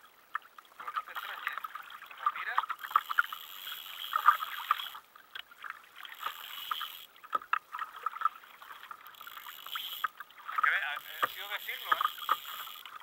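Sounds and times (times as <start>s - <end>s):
small water splashes: 0.0s - 13.0s
waves lapping against a hull: 0.0s - 13.0s.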